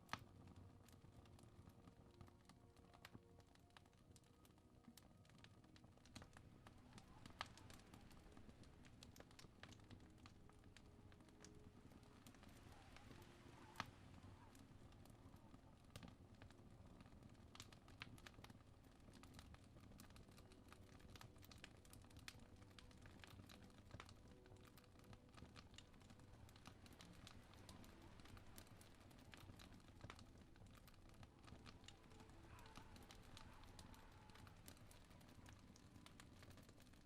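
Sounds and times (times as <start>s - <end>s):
fireplace wood crackling: 0.0s - 37.0s.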